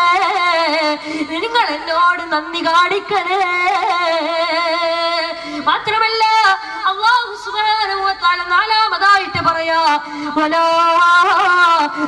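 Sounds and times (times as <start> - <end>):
boy chanting into a microphone: 0.0 - 12.0.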